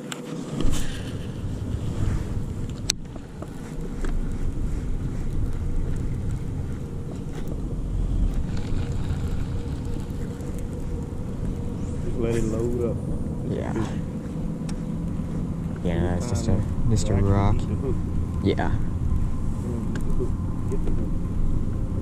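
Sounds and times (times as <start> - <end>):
faint steady hum: 0.0 - 22.0
wind buffeting microphone: 0.0 - 22.0.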